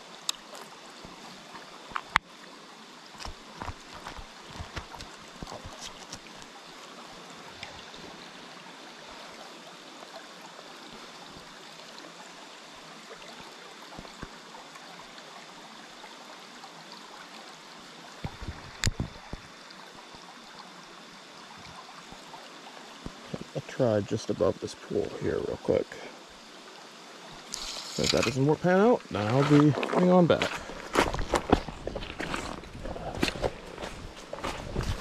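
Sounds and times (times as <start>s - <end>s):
stream babbling over rocks: 0.0s - 35.0s.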